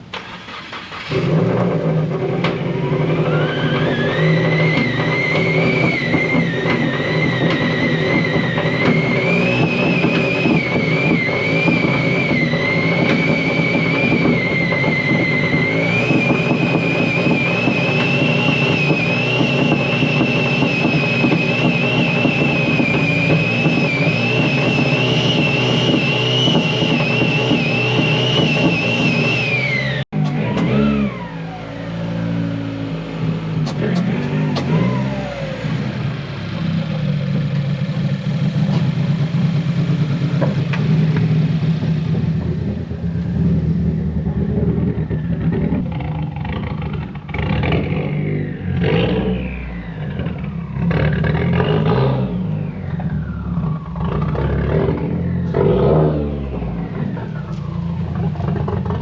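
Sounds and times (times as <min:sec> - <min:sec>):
car engine running: 0:00.0 - 0:59.0
high whine: 0:01.2 - 0:59.0.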